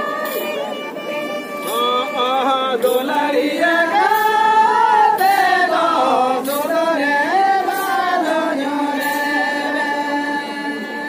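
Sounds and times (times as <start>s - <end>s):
group singing unaccompanied: 0.0s - 11.0s.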